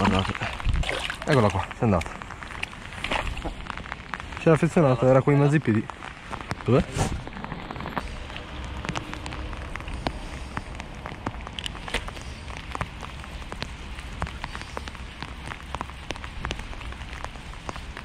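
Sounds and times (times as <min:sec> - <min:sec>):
rain falling on water: 0:00.0 - 0:18.0.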